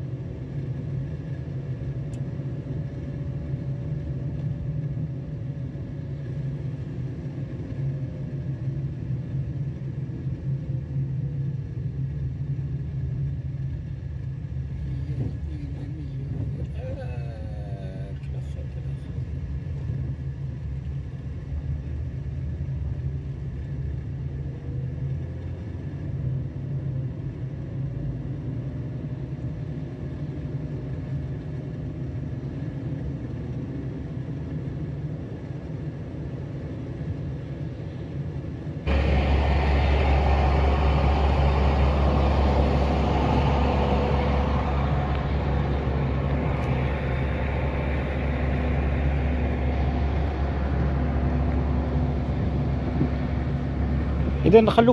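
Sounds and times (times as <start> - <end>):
low outdoor rumble: 0.0 - 54.9.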